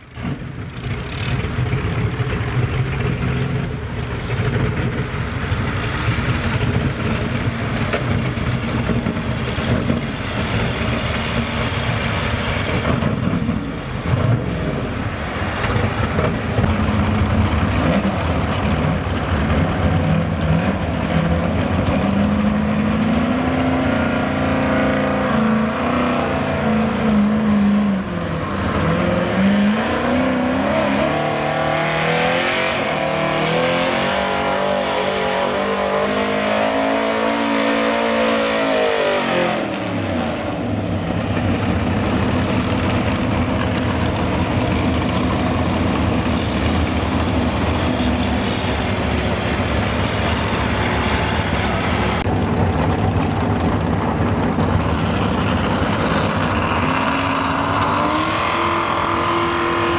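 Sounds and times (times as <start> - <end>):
pulling truck engine running hard: 0.0 - 59.9.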